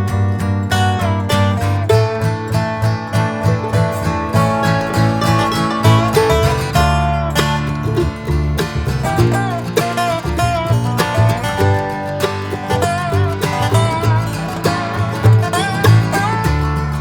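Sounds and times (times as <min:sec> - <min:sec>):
acoustic guitar tune: 0:00.0 - 0:17.0
steady bass line: 0:00.0 - 0:17.0.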